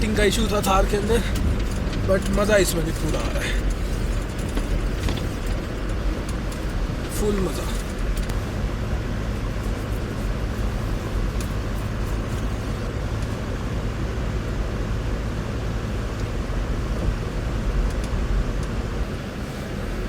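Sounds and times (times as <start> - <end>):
diesel engine drone: 0.0 - 20.0
tyre road noise: 0.0 - 20.0.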